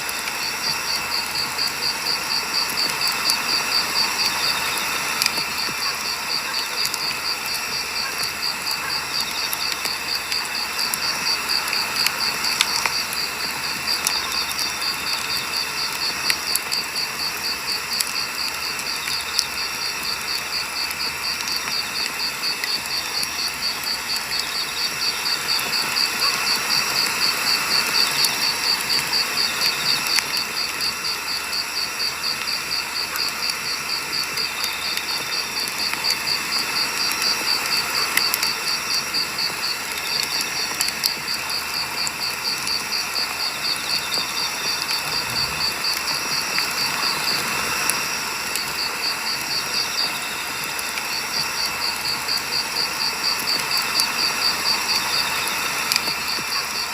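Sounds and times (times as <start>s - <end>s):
cricket chirping: 0.0s - 56.9s
fire crackling and popping: 0.0s - 56.9s.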